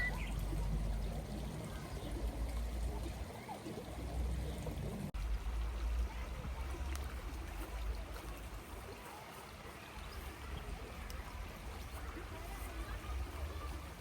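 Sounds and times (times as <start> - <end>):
stream running: 0.0 - 14.0.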